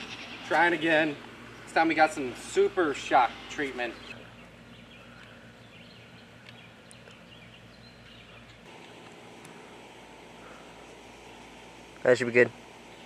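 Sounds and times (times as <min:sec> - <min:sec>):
faint outdoor background hum: 0:00.0 - 0:13.0.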